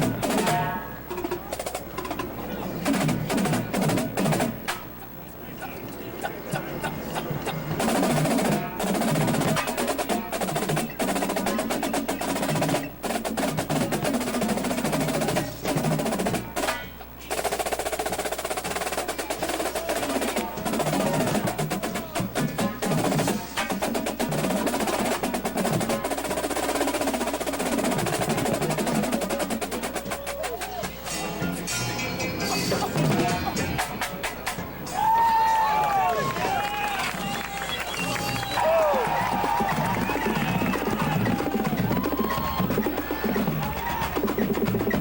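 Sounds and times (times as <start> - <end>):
drum strokes and rolls: 0.0 - 5.2, 6.3 - 31.7, 32.4 - 45.0.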